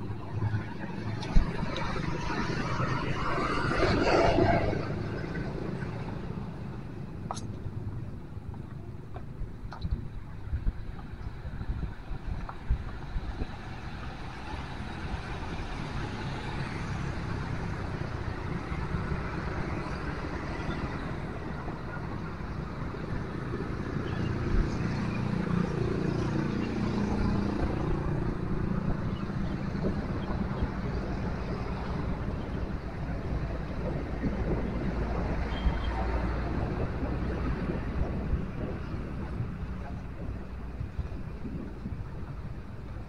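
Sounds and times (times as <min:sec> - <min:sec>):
motor vehicles passing: 0:00.0 - 0:43.0
wind rumble on microphone: 0:00.0 - 0:43.0.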